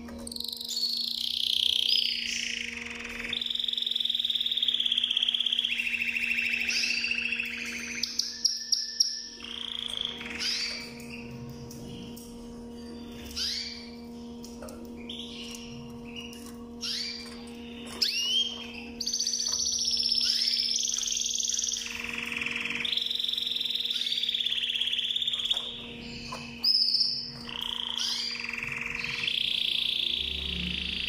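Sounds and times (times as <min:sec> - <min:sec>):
canary chirping and trilling: 0:00.0 - 0:31.0.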